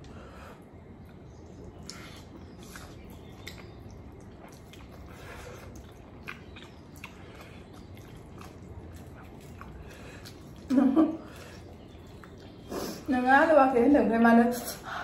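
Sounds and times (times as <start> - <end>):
person chewing noodles: 0.0 - 13.1.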